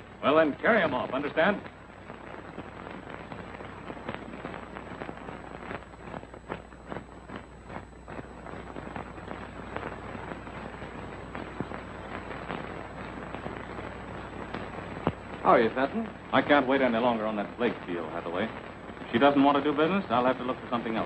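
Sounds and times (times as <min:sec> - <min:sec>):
film soundtrack crackle and pops: 0:00.0 - 0:21.0
film soundtrack hiss: 0:00.0 - 0:21.0
steady low hum: 0:00.0 - 0:21.0.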